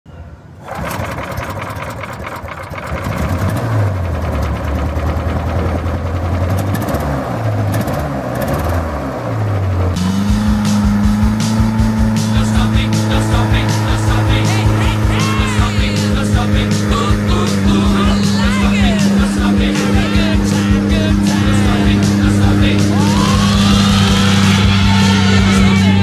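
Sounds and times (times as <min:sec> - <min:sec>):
small petrol engine revving: 0:00.6 - 0:26.0.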